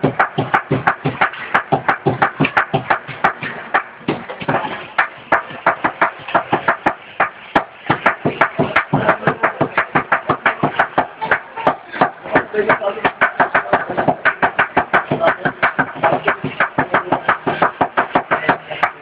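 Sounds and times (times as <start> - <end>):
cleaver chopping on board: 0.0 - 19.0.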